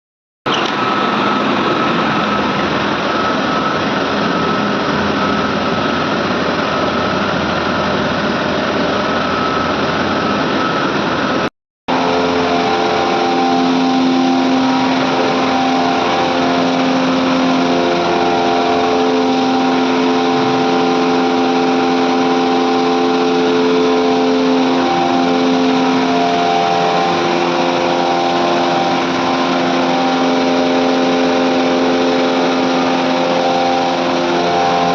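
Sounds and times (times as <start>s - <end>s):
air compressors running: 0.5s - 34.9s
steady hum tones: 0.5s - 34.9s.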